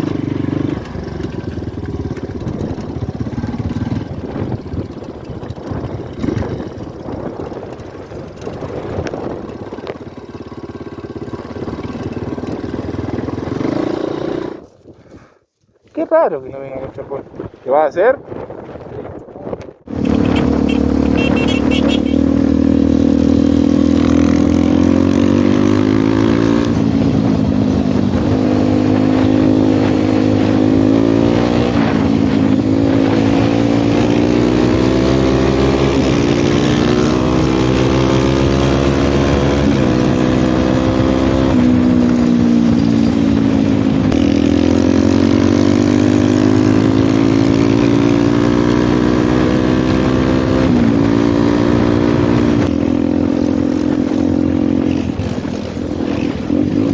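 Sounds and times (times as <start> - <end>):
motorcycle engine revving: 0.0 - 14.8, 19.8 - 56.9.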